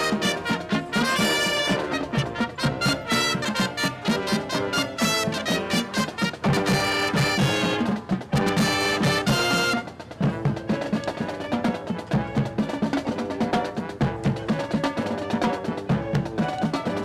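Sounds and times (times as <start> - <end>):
brass chords: 0.0 - 17.0
marching drums beat: 0.0 - 17.0.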